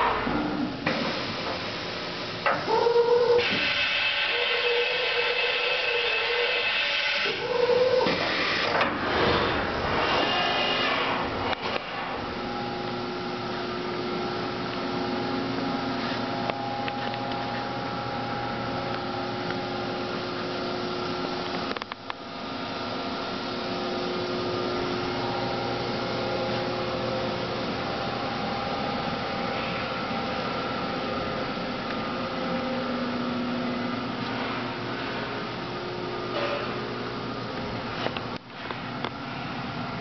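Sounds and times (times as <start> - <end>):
machining center humming: 0.0 - 40.0.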